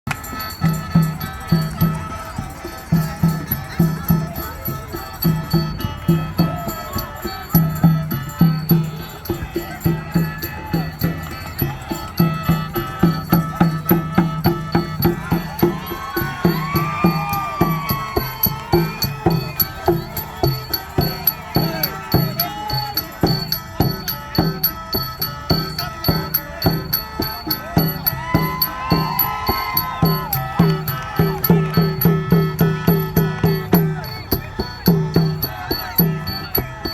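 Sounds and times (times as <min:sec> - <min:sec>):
drum beating steadily: 0:00.1 - 0:36.9
ringing cymbals or gongs: 0:00.1 - 0:36.9
person singing: 0:00.3 - 0:36.9.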